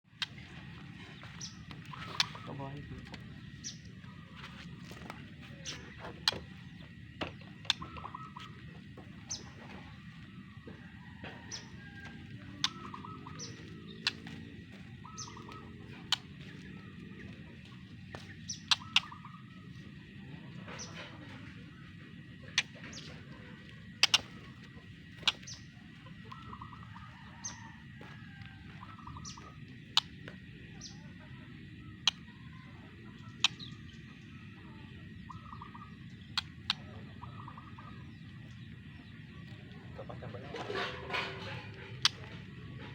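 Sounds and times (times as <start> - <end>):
bird chirping: 0.1 - 42.9
low background hum: 0.1 - 42.9.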